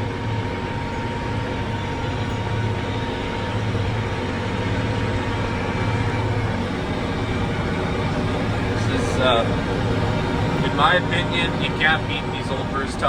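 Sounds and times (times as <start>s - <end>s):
diesel engine running under load: 0.0s - 13.0s
thin steady whine: 0.0s - 13.0s.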